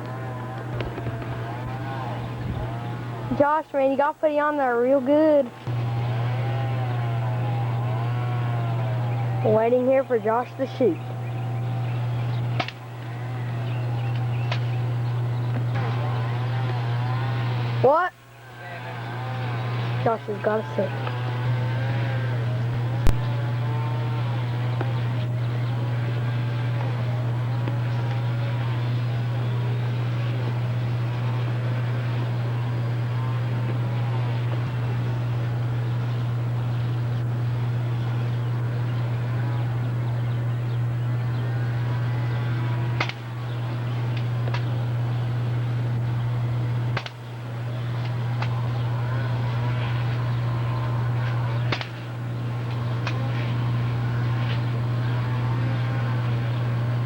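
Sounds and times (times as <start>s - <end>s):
low engine-like hum: 0.0s - 57.0s
wavering whine: 0.0s - 57.0s.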